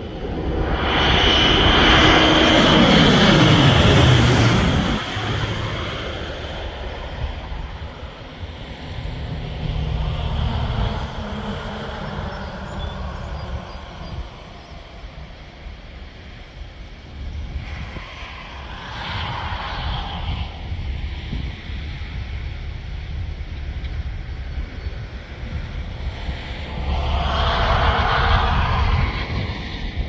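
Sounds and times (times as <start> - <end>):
airplane flying low overhead: 0.0 - 30.0
low engine drone: 0.0 - 30.0.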